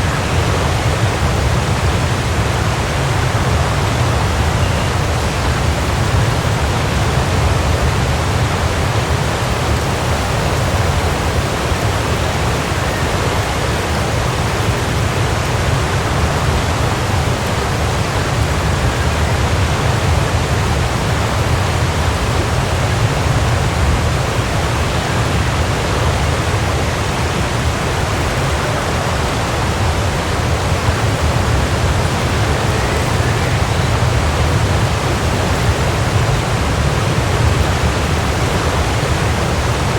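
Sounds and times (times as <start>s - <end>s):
waterfall crashing into pool: 0.0s - 39.9s.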